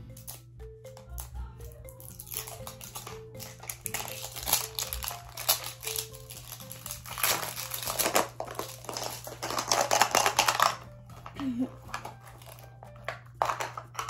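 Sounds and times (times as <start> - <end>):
quiet background music: 0.0 - 14.0
plastic packaging crinkling: 2.0 - 14.0.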